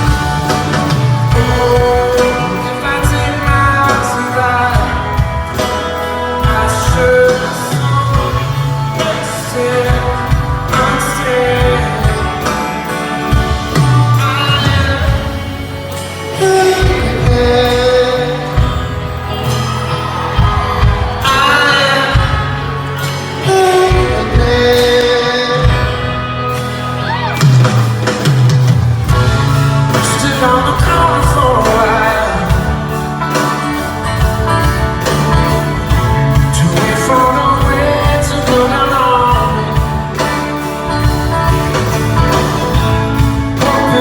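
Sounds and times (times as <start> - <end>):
man singing: 0.0 - 27.6, 29.1 - 44.0
rock band playing: 0.0 - 44.0.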